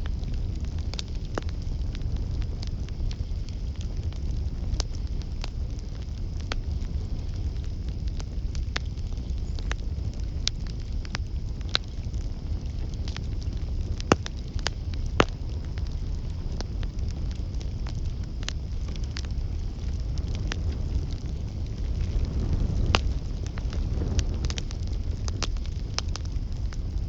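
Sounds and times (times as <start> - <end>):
campfire crackling and popping: 0.0 - 27.0
low rumble of flames: 0.0 - 27.0.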